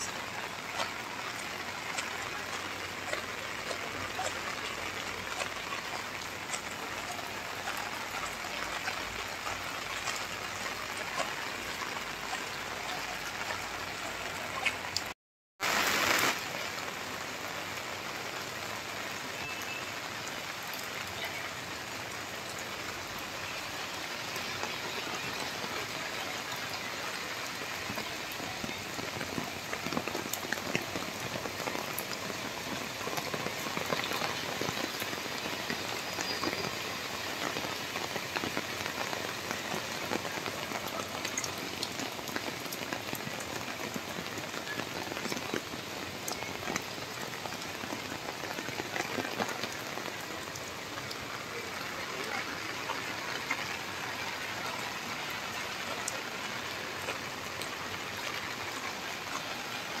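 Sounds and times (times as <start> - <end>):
heavy rain on pavement: 0.0 - 60.0.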